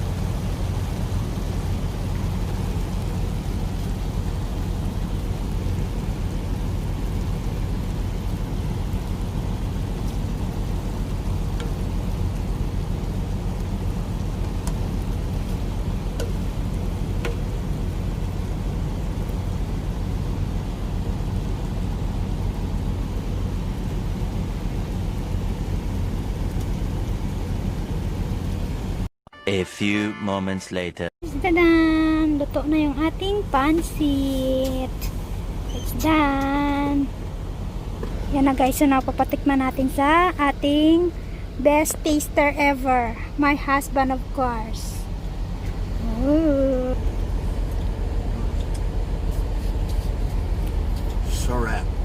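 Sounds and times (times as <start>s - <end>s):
engine-like drone: 0.0s - 29.1s, 31.2s - 52.0s.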